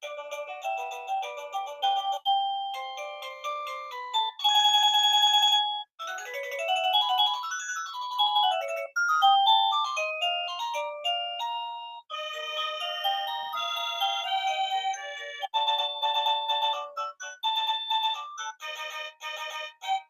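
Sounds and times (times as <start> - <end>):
electronic doorbell chime melodies: 0.0 - 20.0.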